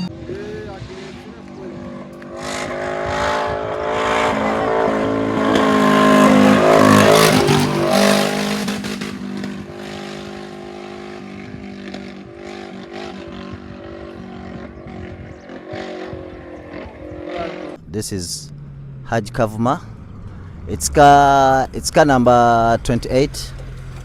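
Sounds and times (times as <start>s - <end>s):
car engine idling: 0.0s - 24.0s
rally car engine revving: 0.0s - 24.0s.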